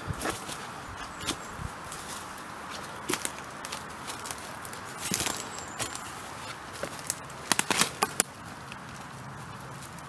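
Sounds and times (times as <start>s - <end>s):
footsteps crunching through dry leaves: 0.0s - 10.0s
twigs snapping: 0.0s - 10.0s.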